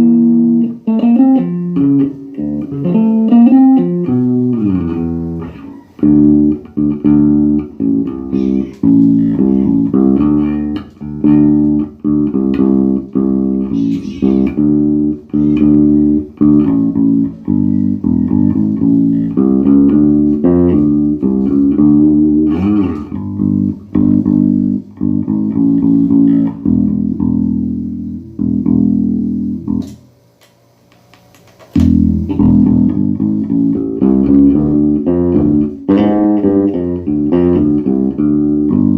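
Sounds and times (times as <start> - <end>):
electric bass guitar riffs: 0.0 - 30.1, 31.7 - 38.9.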